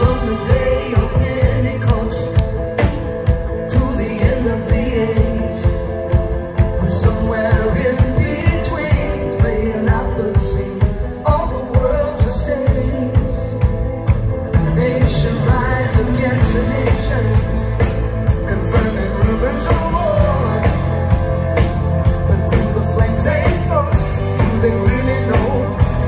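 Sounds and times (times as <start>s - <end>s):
man singing: 0.0s - 26.0s
rock band playing live: 0.0s - 26.0s.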